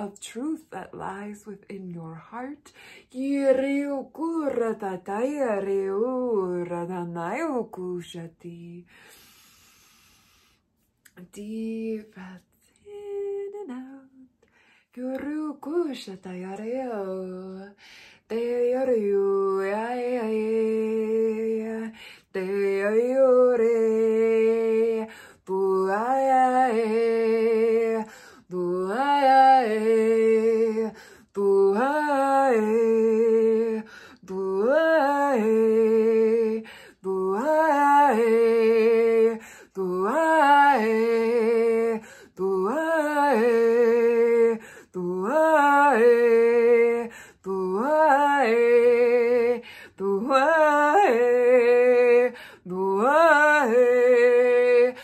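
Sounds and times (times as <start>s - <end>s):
woman singing wordless chant: 0.0s - 9.3s, 11.1s - 55.0s.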